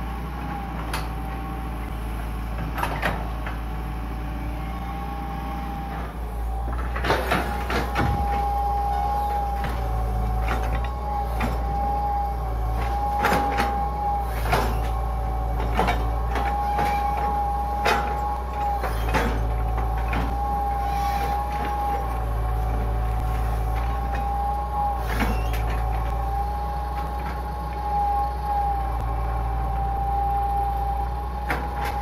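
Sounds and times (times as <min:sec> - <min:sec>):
excavator diesel engine under load: 0:00.0 - 0:32.0
hydraulic whine: 0:00.0 - 0:32.0.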